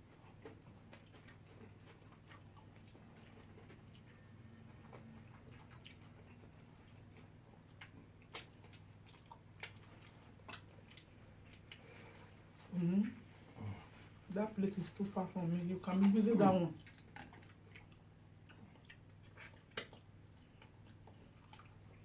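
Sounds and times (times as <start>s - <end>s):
faint chewing: 0.0s - 22.0s
low steady hum: 0.0s - 22.0s.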